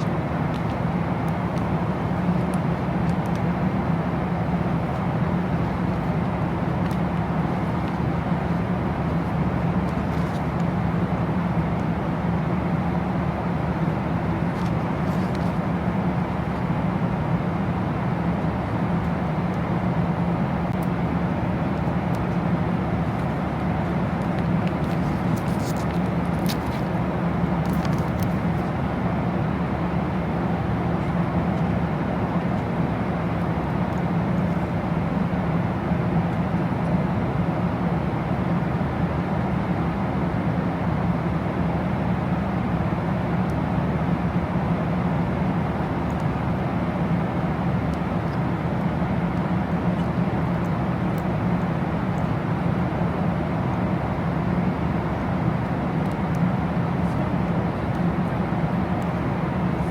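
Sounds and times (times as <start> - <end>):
vehicle cabin drone: 0.0 - 59.9.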